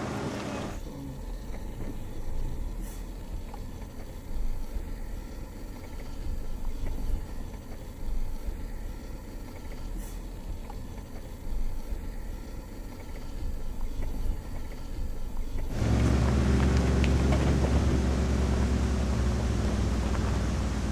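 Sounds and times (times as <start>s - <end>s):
engine and tyres on rough ground: 0.0s - 20.9s.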